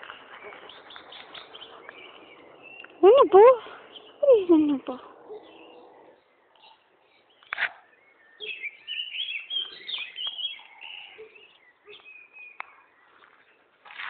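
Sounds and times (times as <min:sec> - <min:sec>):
songbirds chirping and warbling: 0:00.0 - 0:14.0.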